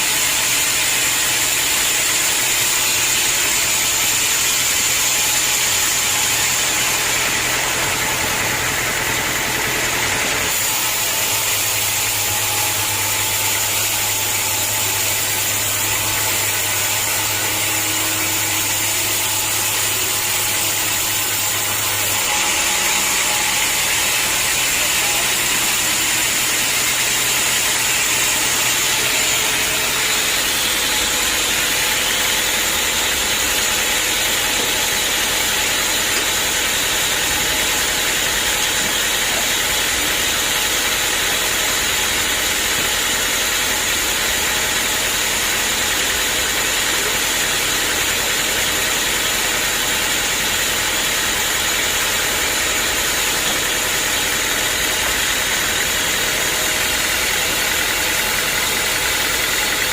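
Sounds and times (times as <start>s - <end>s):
sawmill engine drone: 0.0s - 59.9s.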